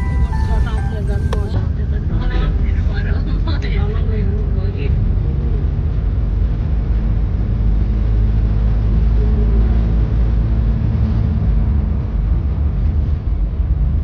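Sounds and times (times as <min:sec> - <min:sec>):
car interior engine and tyre rumble: 0:00.0 - 0:14.0.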